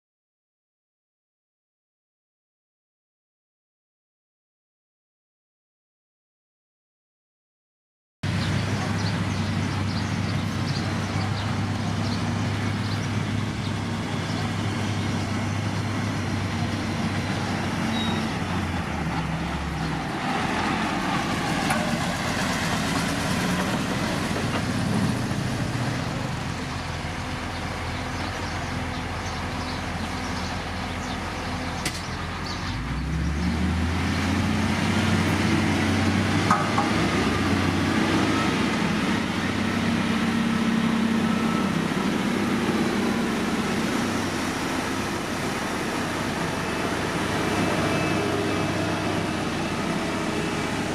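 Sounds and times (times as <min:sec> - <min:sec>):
heavy diesel engine running: 0:08.2 - 0:50.9.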